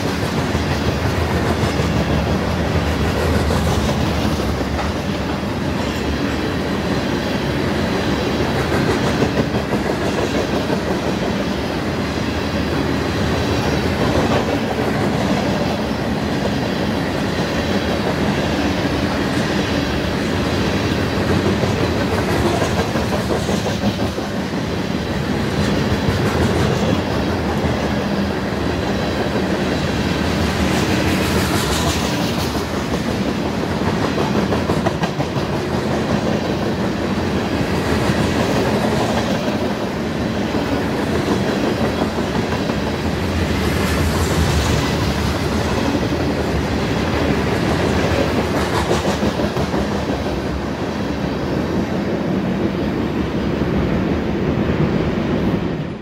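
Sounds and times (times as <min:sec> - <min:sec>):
train cars rolling past: 0:00.0 - 0:56.0.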